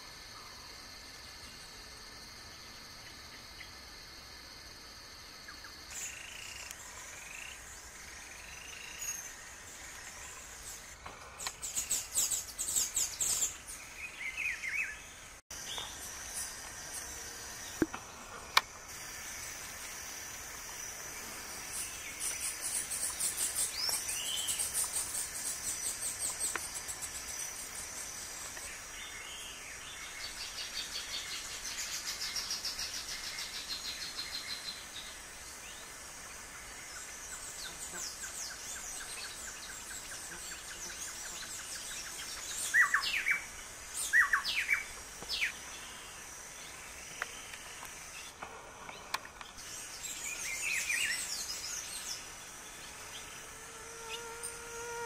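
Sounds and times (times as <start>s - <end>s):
insects hissing: 0.0s - 55.0s.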